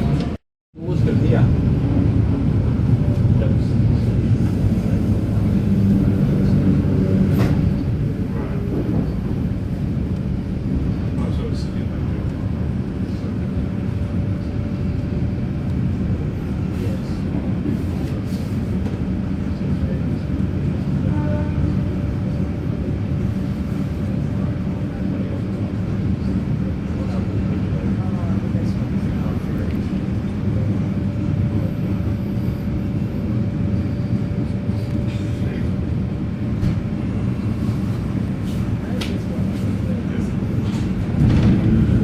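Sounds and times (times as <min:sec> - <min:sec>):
electric train rumbling: 0:00.0 - 0:42.0.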